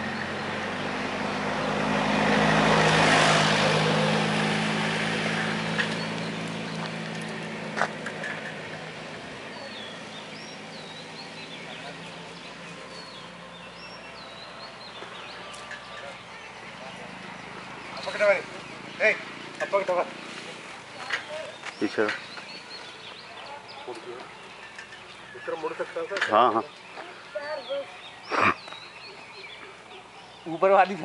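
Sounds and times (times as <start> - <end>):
vehicle passing: 0.0 - 31.0.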